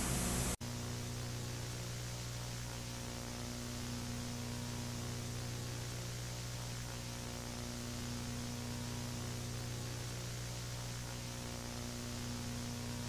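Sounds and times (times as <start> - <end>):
low electrical hum: 0.0 - 13.0
television static hiss: 0.0 - 13.0.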